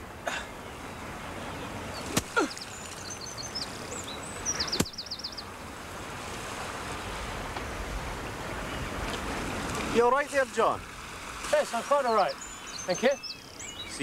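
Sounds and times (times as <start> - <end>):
birds chirping: 0.0 - 6.0, 6.8 - 14.0
outdoor background noise: 0.0 - 14.0.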